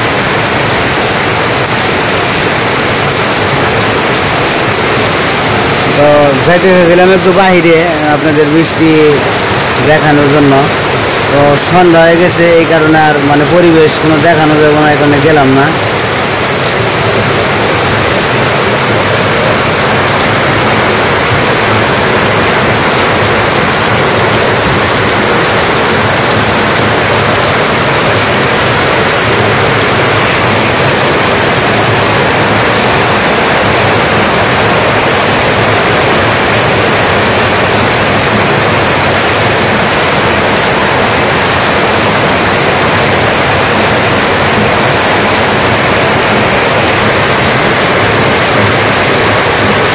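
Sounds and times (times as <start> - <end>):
heavy rain on metal roofs: 0.0 - 49.9
runoff pouring off eaves: 0.0 - 49.9.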